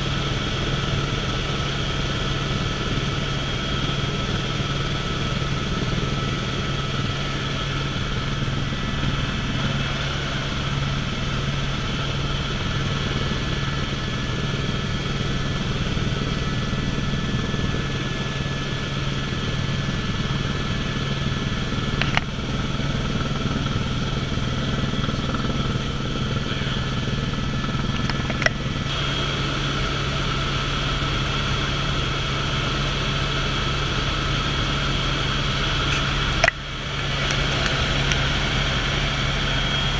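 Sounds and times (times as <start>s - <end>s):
helicopter rotor and engine drone: 0.0s - 39.9s
high whine: 0.0s - 39.9s.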